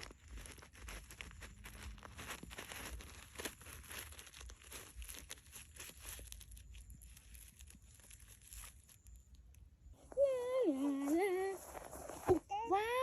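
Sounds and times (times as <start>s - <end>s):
crinkling and rustling: 0.0s - 13.0s.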